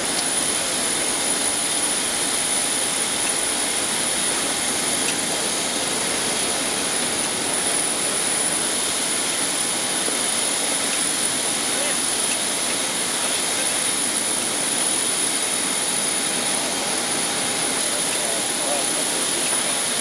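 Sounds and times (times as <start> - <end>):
jet turbine whining: 0.0 - 20.0.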